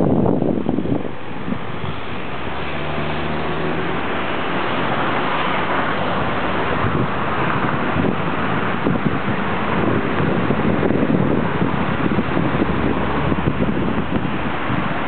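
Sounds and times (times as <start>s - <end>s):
tram wheels rumbling on rails: 0.0s - 15.0s
wind buffeting microphone: 0.0s - 15.0s.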